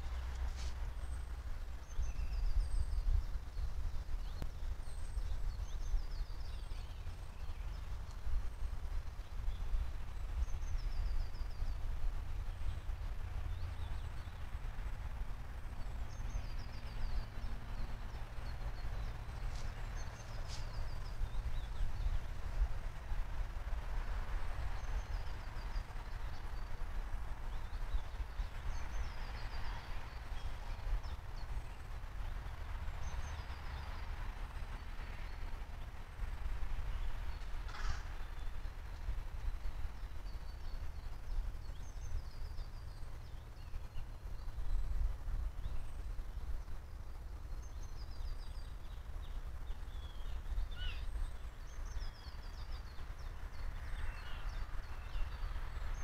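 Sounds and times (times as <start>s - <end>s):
low steady rumble: 0.0s - 56.0s
songbirds trilling: 0.0s - 56.0s.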